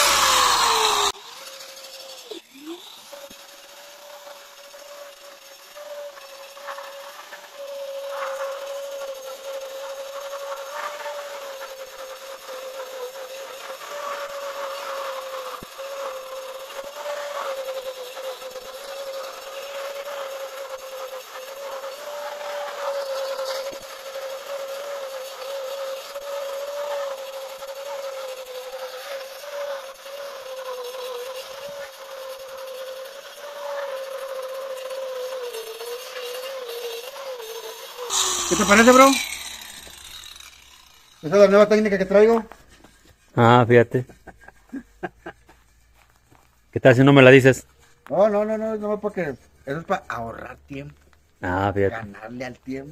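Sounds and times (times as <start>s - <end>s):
angle grinder cutting bricks: 0.0s - 52.9s.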